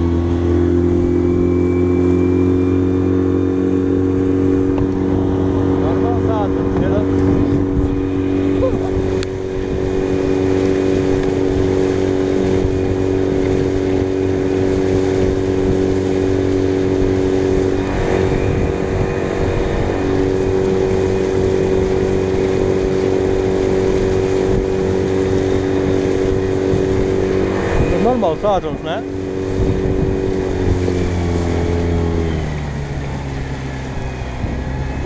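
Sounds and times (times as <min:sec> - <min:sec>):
outboard motor running: 0:00.0 - 0:35.0
wind and water rushing: 0:00.0 - 0:35.0.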